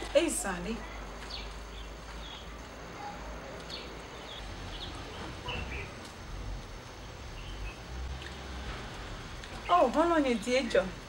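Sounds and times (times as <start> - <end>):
steady hiss and low rumble: 0.0 - 11.0.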